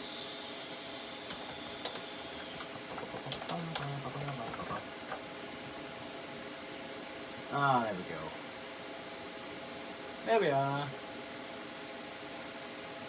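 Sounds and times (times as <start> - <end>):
computer fans whirring: 0.0 - 13.0.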